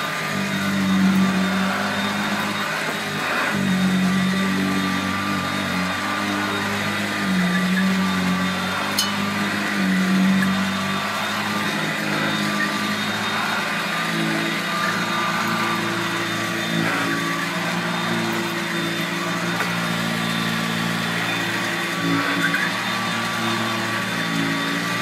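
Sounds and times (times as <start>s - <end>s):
vacuum cleaner motor hum: 0.0s - 25.0s.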